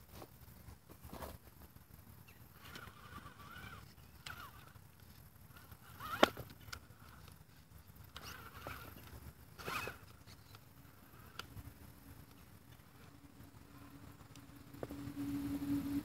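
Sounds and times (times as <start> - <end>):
drivetrain whine: 0.0 - 16.0.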